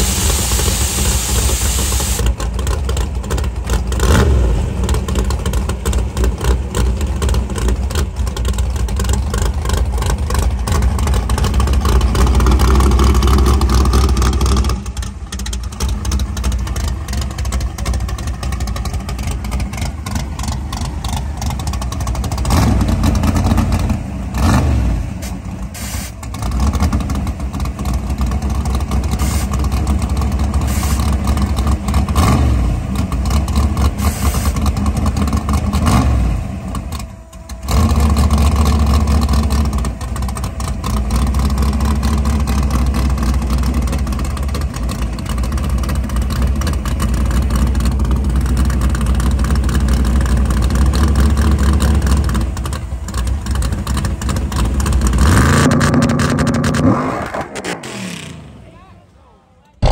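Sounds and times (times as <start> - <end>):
rough idling car engine revving: 0.0 - 59.9.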